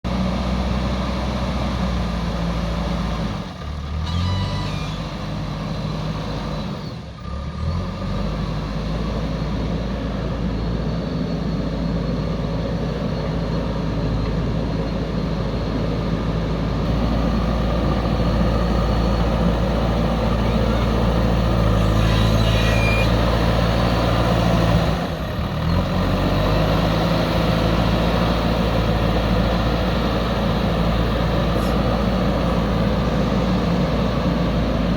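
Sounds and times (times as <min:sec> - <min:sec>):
heavy machinery engine running: 0:00.1 - 0:34.9.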